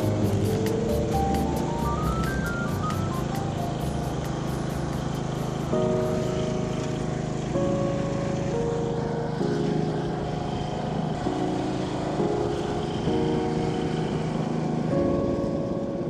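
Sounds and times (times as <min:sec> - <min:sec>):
lawn tractor engine running: 0:00.0 - 0:16.0
slow melodic background music: 0:00.0 - 0:16.0.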